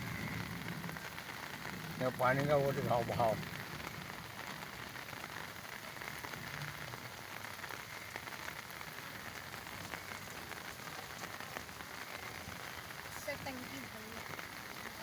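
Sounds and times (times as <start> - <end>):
rain falling on wet ground: 0.0 - 15.0.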